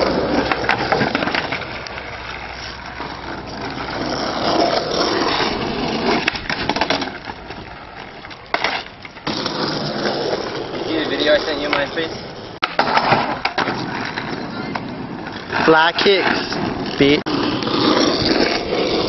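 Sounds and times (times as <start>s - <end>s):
skateboard clacks: 0.0s - 19.0s
skateboard wheels rolling on asphalt: 0.0s - 19.0s.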